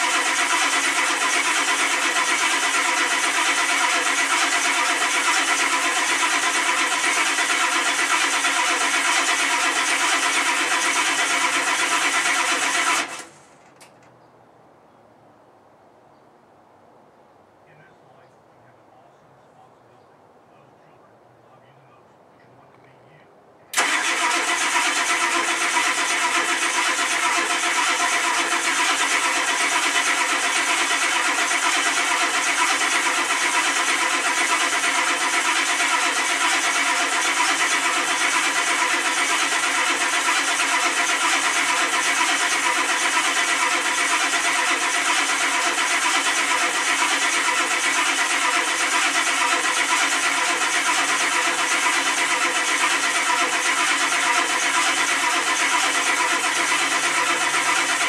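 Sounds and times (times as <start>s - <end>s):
starter motor cranking engine: 0.0s - 13.9s, 23.7s - 58.0s.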